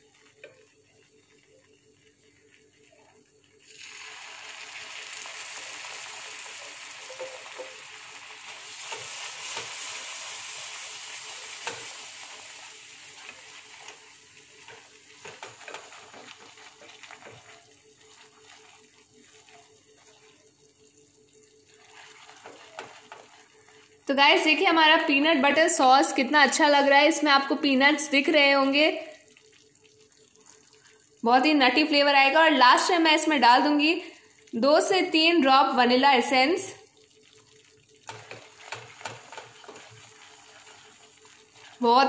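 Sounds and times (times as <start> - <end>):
sauce sizzling in a frying pan: 0.0 - 42.0.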